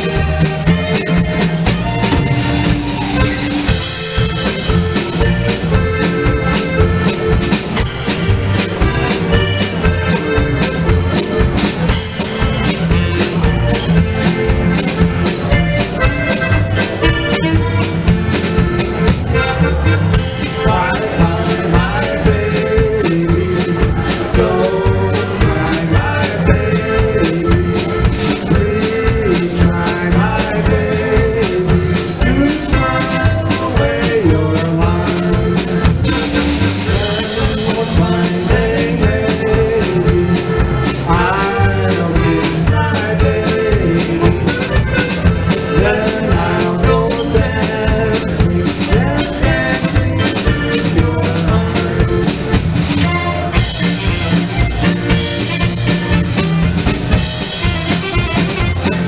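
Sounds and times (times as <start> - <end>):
live polka band playing: 0.0 - 59.0.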